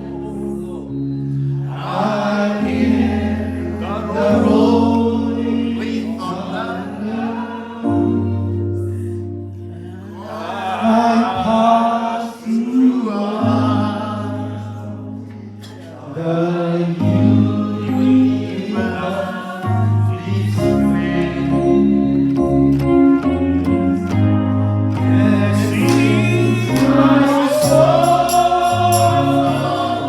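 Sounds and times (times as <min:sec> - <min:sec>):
bass and keyboard chords: 0:00.0 - 0:11.9, 0:13.2 - 0:15.6, 0:17.0 - 0:30.0
voices singing gospel: 0:00.0 - 0:22.8, 0:24.1 - 0:30.0.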